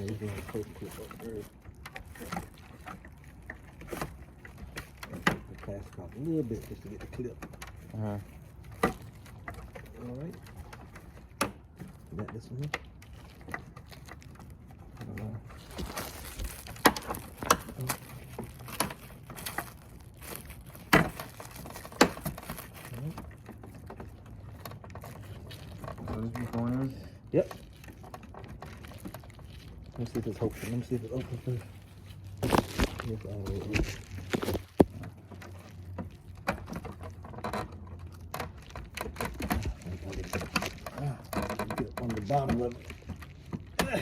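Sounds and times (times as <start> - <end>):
plastic parts clicking and knocking: 0.0 - 44.0.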